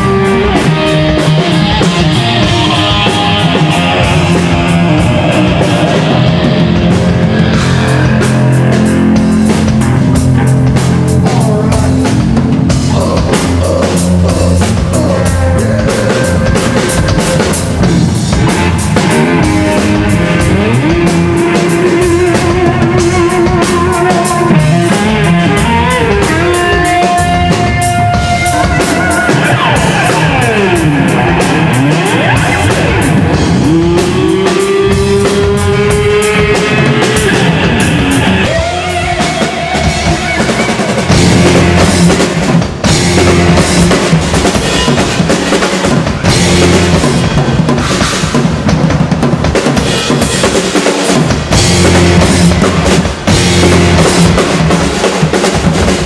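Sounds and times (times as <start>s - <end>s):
guitar lead with pitch dives: 0.0s - 47.8s
heavy metal band playing: 0.0s - 56.0s.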